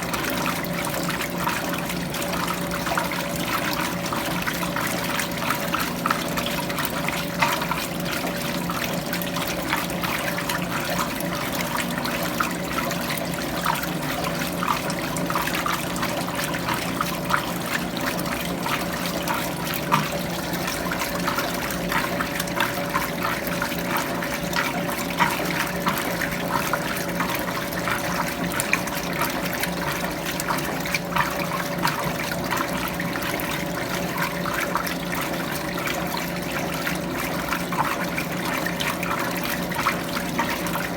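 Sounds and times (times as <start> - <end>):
washing machine hum: 0.0 - 40.9
water sloshing in washing machine: 0.0 - 40.9.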